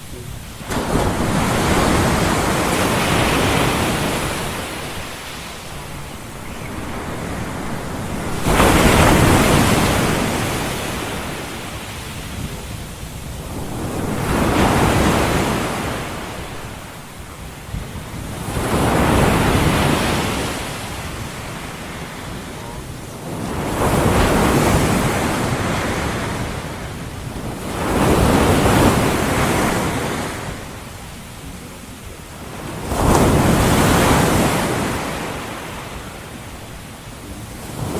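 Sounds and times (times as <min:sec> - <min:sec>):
ocean waves washing in: 0:00.0 - 0:37.9.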